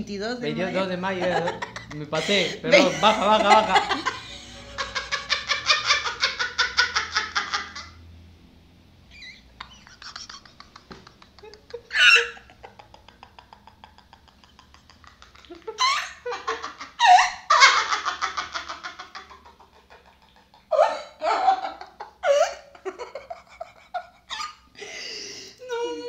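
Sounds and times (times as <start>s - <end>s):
man and woman laughing: 0.6s - 7.9s, 9.6s - 24.7s.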